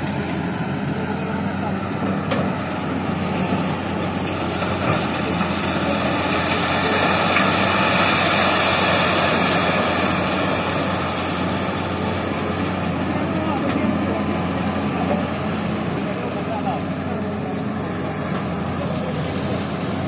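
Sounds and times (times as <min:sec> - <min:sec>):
broad machinery noise: 0:00.0 - 0:20.0
excavator diesel engines running: 0:00.0 - 0:20.0.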